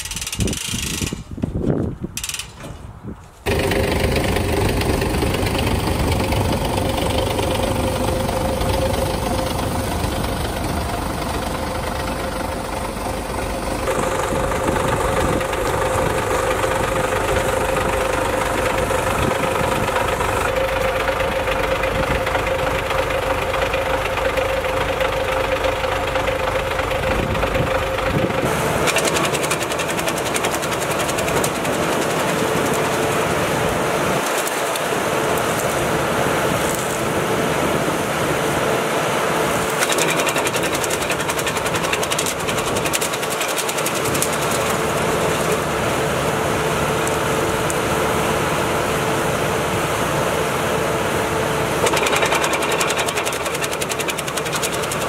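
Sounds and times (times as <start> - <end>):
tractor diesel engine running: 3.4 - 55.0.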